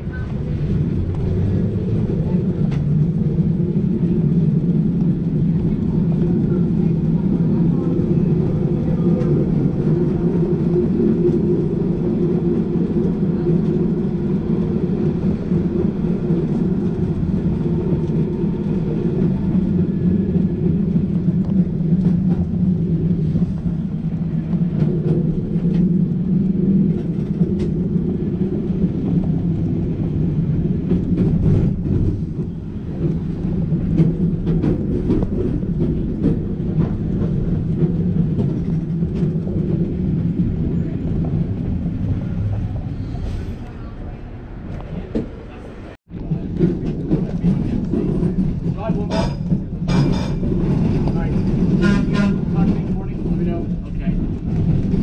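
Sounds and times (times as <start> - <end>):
streetcar rumbling on rails: 0.0 - 55.0.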